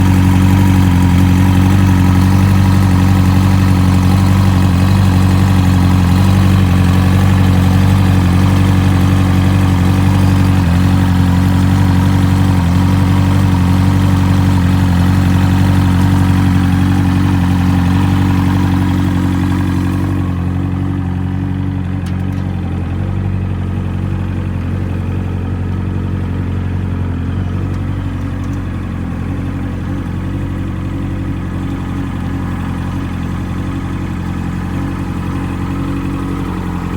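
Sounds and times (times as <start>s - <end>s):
outboard motor idling: 0.0s - 36.9s.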